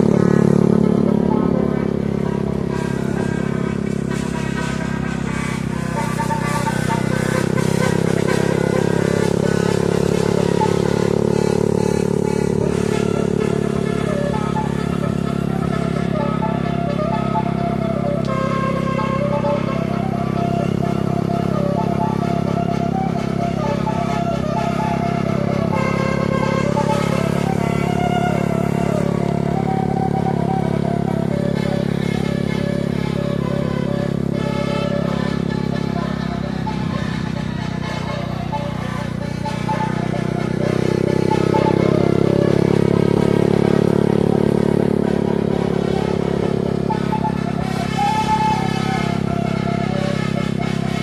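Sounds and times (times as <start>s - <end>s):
faint melody of held notes: 0.0s - 51.0s
faint music: 0.0s - 51.0s
vehicle engine droning: 0.0s - 51.0s.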